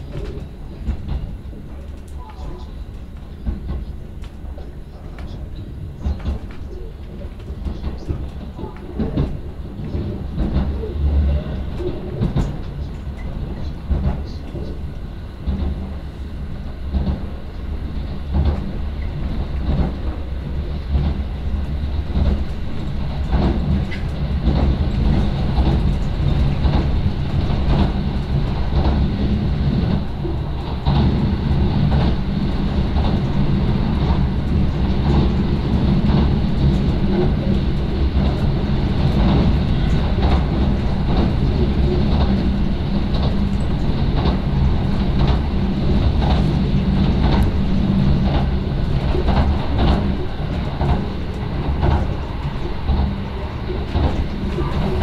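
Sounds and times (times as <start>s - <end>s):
wheels clicking over rail joints: 0.0s - 16.0s, 16.8s - 55.0s
train interior rumble: 0.0s - 55.0s.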